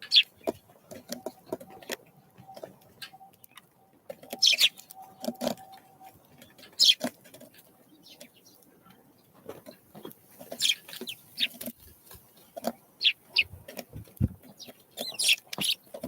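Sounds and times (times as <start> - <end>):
songbirds calling: 0.0 - 16.0.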